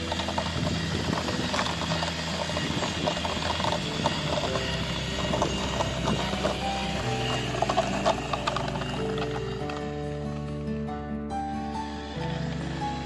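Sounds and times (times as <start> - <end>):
toy truck rattling over asphalt: 0.0 - 10.8, 11.7 - 13.0
background music: 0.0 - 13.0.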